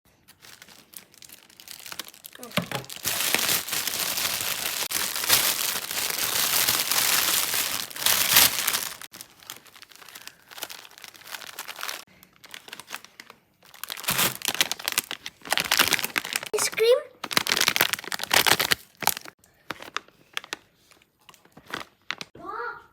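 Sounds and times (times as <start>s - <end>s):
candy wrapper crinkling: 0.3s - 22.3s.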